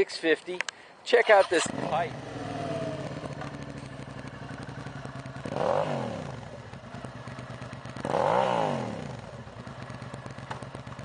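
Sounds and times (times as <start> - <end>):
motorcycle engine idling: 1.5 - 11.0.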